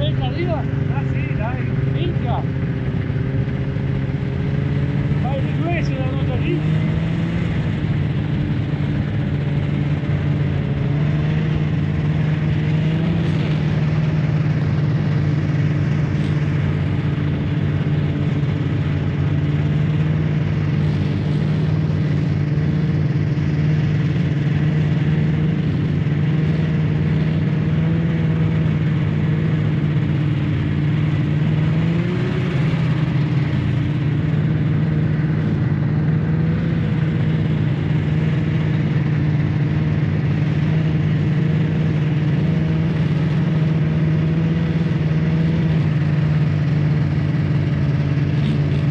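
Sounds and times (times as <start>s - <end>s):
snowmobile engine running: 0.0s - 48.9s.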